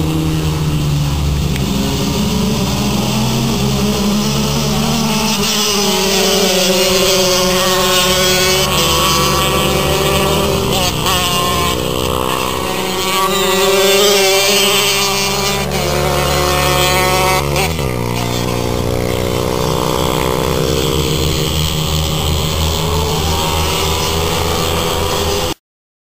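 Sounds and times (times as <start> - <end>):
racing motorcycle engines: 0.0 - 25.6.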